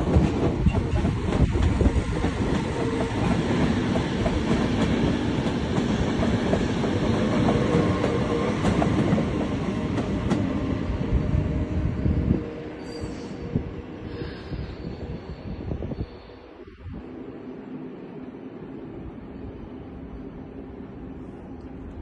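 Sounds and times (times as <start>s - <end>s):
train rumbling on tracks: 0.0s - 22.0s.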